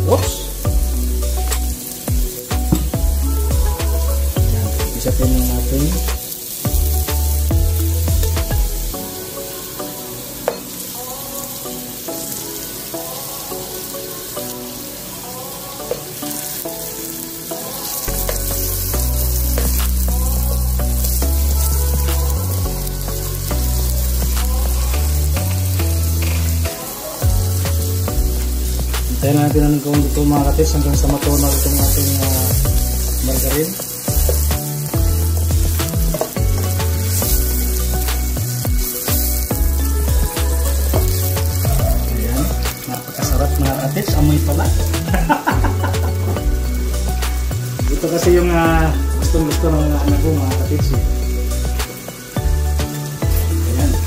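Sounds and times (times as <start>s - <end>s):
background music: 0.0s - 54.0s
onions and garlic sizzling: 0.0s - 54.0s.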